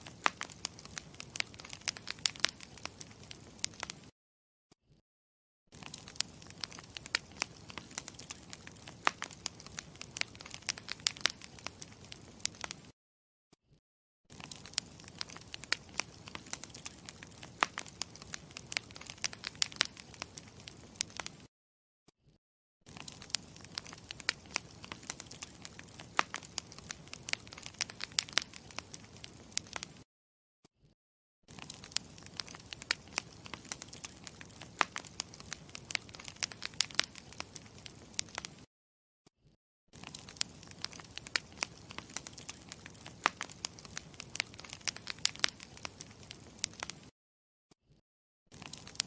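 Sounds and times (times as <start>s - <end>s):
campfire crackling: 0.0s - 4.1s, 5.8s - 12.9s, 14.3s - 21.5s, 22.9s - 30.0s, 31.5s - 38.6s, 40.0s - 47.1s, 48.5s - 49.0s.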